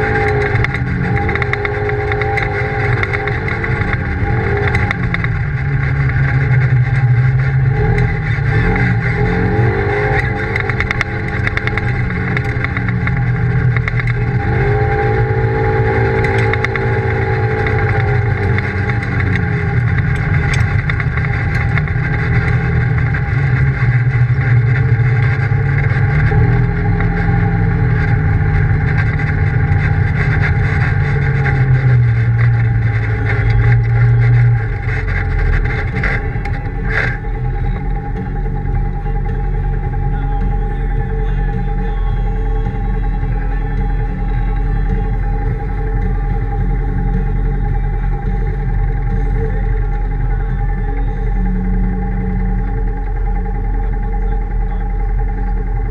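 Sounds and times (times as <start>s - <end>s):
vehicle engine revving: 0.0s - 55.9s
wind and tyre noise: 0.0s - 55.9s.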